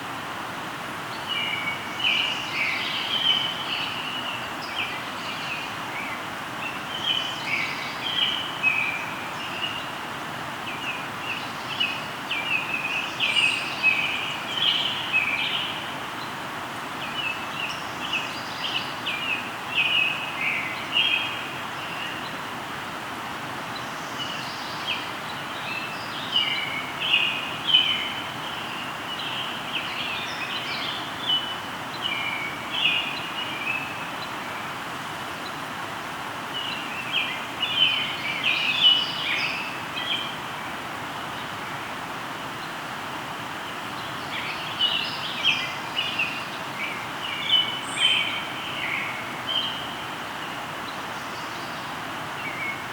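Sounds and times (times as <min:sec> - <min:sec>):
river flowing: 0:00.0 - 0:52.9
songbirds chirping: 0:00.0 - 0:52.9.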